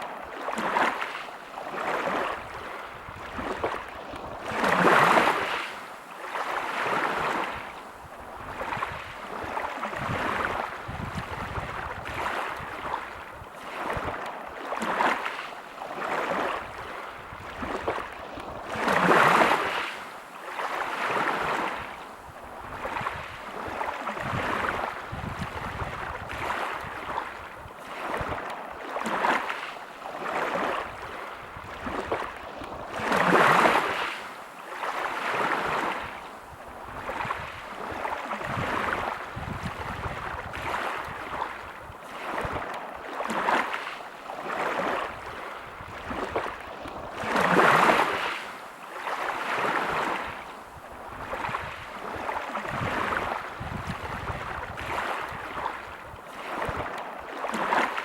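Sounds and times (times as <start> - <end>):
waves breaking on pebble beach: 0.0 - 7.8, 8.4 - 22.0, 22.7 - 36.2, 36.9 - 58.0.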